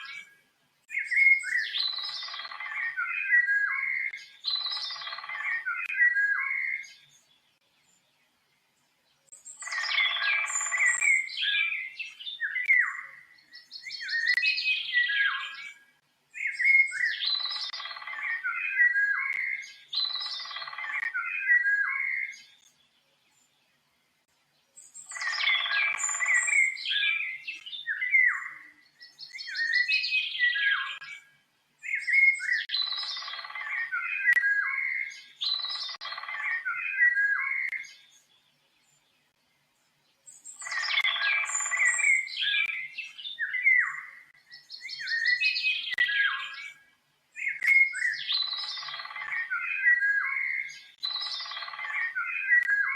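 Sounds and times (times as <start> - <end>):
songbirds chirping and trilling: 0.0 - 52.9.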